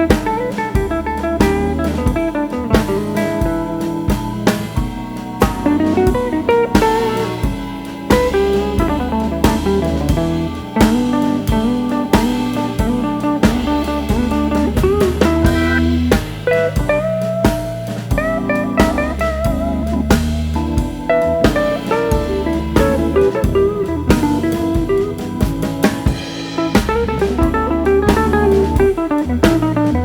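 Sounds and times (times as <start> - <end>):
bass: 0.0 - 30.0
blues guitar with bending notes: 0.0 - 30.0
drum kit beat: 0.0 - 30.0.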